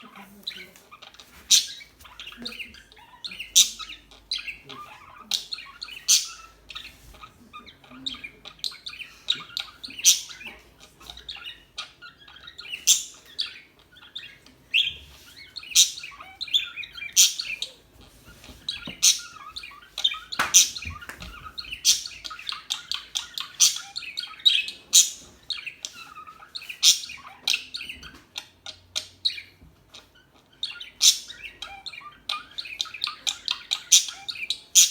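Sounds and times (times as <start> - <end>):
parakeets chirping: 0.0 - 34.9.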